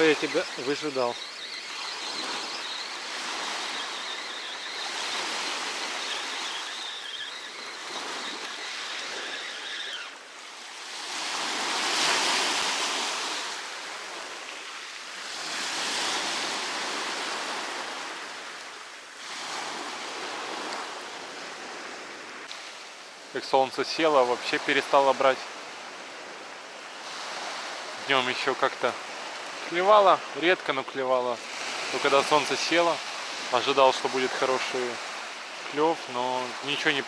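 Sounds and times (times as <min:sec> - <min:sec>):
sea waves on a beach: 0:00.0 - 0:37.0.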